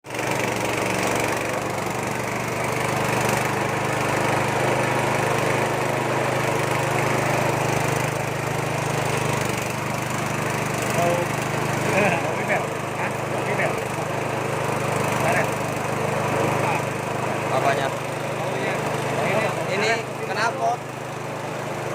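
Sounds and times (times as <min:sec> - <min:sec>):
small engine running: 0:00.0 - 0:21.9
mill grinding: 0:00.1 - 0:21.9.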